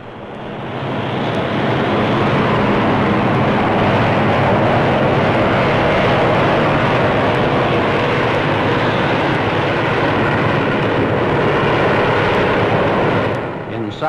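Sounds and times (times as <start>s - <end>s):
propeller aircraft engines droning: 0.0s - 14.0s.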